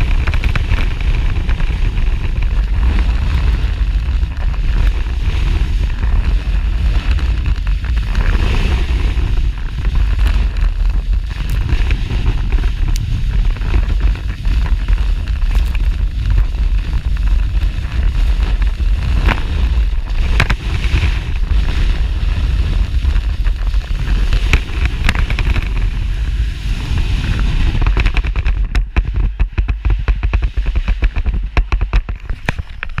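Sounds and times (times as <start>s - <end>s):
snowboard scraping on snow: 0.0s - 33.0s
wind rumble on microphone: 0.0s - 33.0s.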